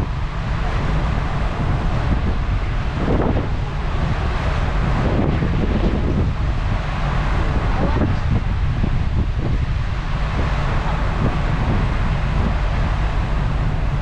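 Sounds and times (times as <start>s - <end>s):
sea noise: 0.0s - 14.0s
wind buffeting microphone: 0.0s - 14.0s.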